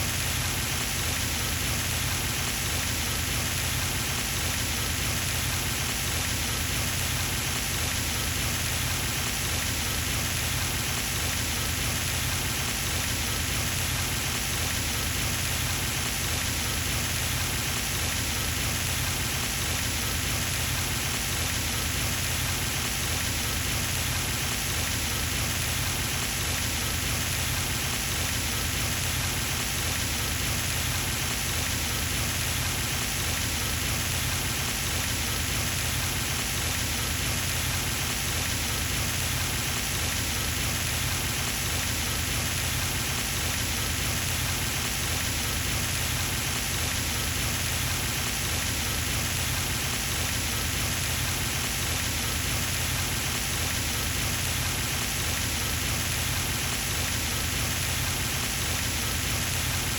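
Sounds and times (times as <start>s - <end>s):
fountain water splashing: 8.4s - 59.9s.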